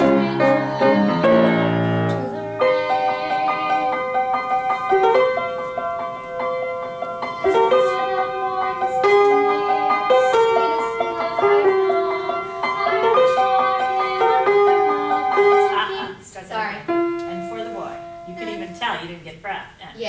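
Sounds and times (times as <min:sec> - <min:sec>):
slow piano music: 0:00.0 - 0:16.2, 0:16.8 - 0:18.8.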